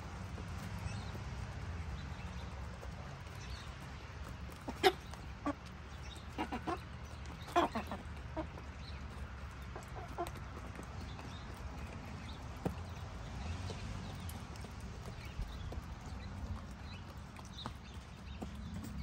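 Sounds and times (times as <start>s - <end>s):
chickens clucking: 0.5s - 19.0s.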